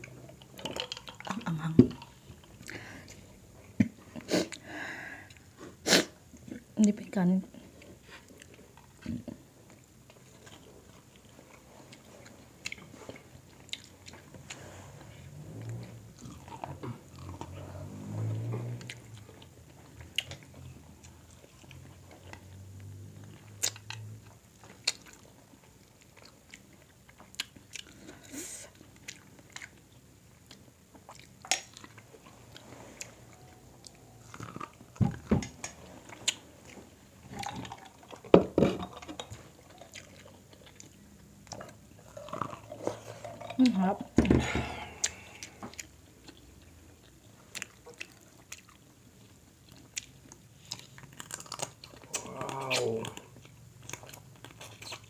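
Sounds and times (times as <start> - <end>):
chewing and wet mouth sounds: 0.0 - 55.0.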